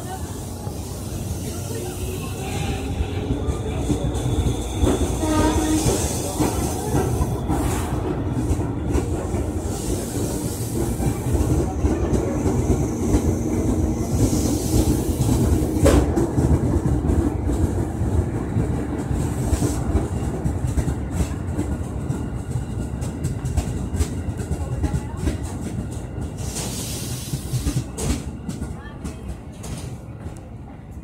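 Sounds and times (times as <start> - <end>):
train rumbling past: 0.0 - 31.0.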